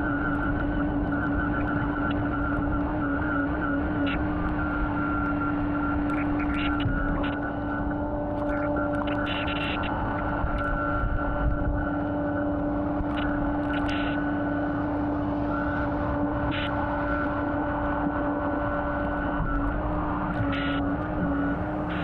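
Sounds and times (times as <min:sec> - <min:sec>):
motor droning hum: 0:00.0 - 0:22.0.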